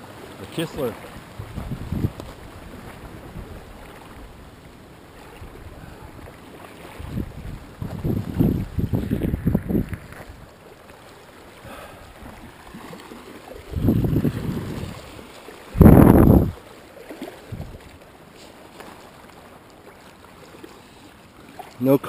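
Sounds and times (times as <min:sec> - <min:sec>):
water rushing on a lake: 0:00.0 - 0:22.0
wind: 0:00.0 - 0:22.0.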